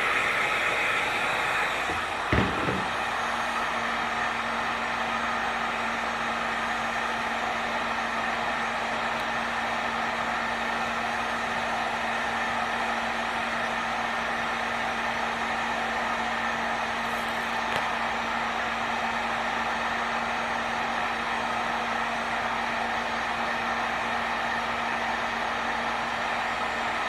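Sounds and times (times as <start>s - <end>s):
heat gun fan running: 0.0s - 27.0s.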